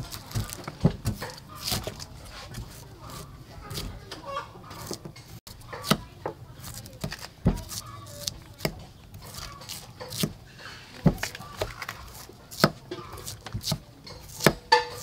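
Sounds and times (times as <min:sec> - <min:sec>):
knife cutting bamboo shoot: 0:00.0 - 0:15.0.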